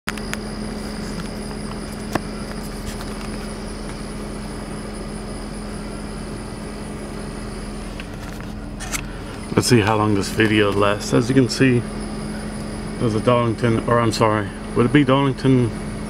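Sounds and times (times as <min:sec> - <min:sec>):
car cabin hum with high whine: 0:00.1 - 0:16.0.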